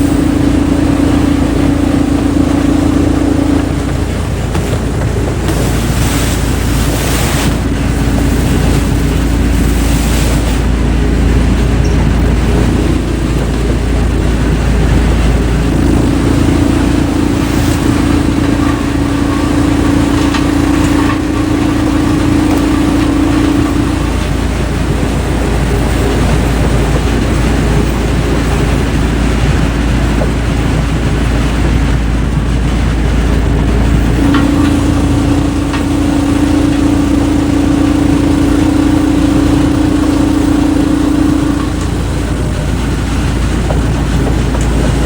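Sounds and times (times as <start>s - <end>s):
heavy machinery engine drone: 0.0s - 45.0s
rumbling grinding noise: 0.0s - 45.0s
steady hum: 0.0s - 45.0s.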